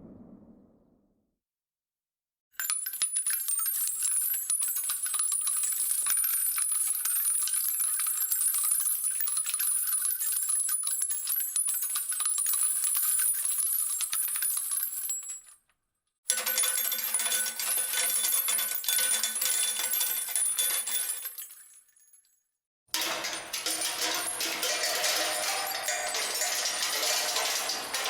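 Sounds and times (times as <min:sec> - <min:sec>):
small metal objects clinking: 0:02.6 - 0:15.6, 0:16.3 - 0:22.4, 0:23.0 - 0:28.0.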